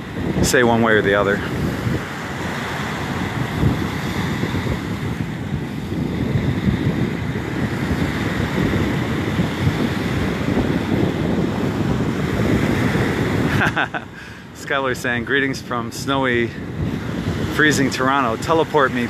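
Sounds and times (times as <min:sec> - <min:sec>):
small waves washing on sand: 0:00.0 - 0:19.0
wind buffeting microphone: 0:00.0 - 0:19.0.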